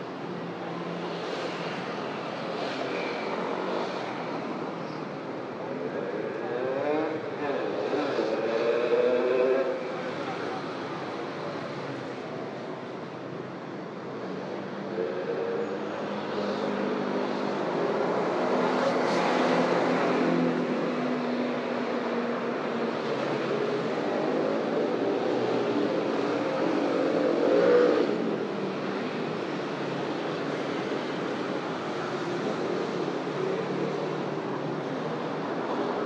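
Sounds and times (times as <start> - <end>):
vehicles passing by: 0.0 - 36.0.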